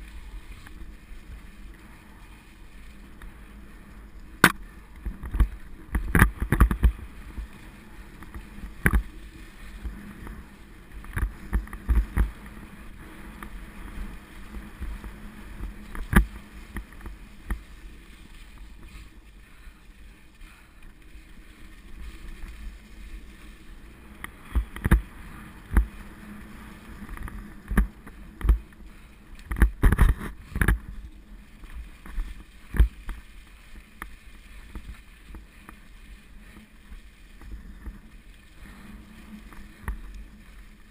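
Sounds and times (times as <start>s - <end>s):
bike knocking and rattling over bumps: 0.0s - 40.9s
bike tyres rushing over leaves: 0.0s - 40.9s.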